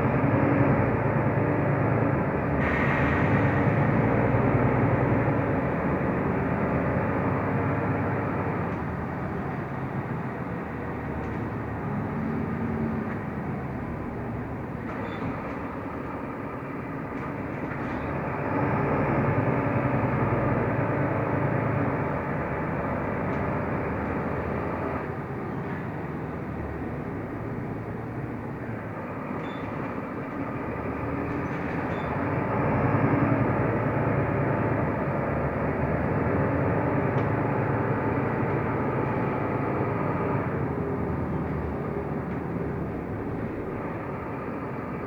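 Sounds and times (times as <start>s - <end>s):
bus diesel engine running: 0.0s - 45.0s
road and cabin noise: 0.0s - 45.0s.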